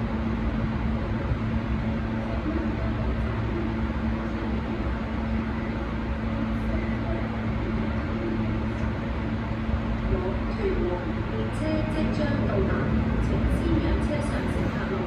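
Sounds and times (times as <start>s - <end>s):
constant low hum: 0.0s - 15.0s.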